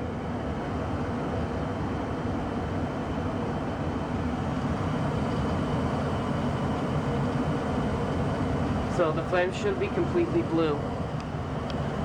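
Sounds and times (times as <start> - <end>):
gas furnace running: 0.0 - 12.0.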